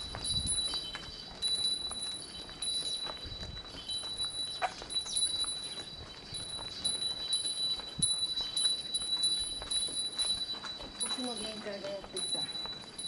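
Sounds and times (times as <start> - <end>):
small metal bell jingling: 0.0 - 13.0.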